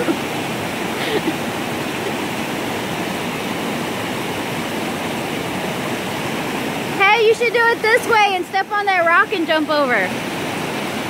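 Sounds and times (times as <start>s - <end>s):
creek water rushing over boulders: 0.0s - 11.0s.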